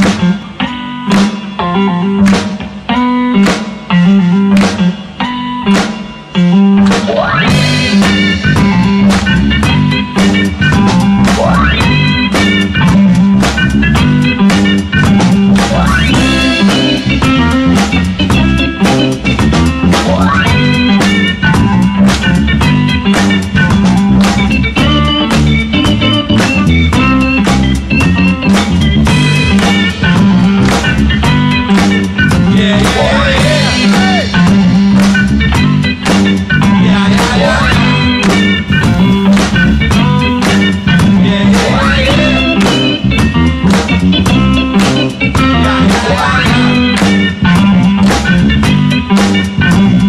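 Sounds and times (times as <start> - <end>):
upbeat guitar instrumental: 0.0 - 50.0.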